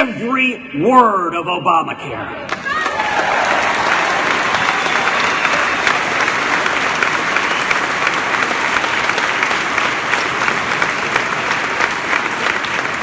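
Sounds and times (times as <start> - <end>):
crowd applauding and cheering: 2.5 - 13.0.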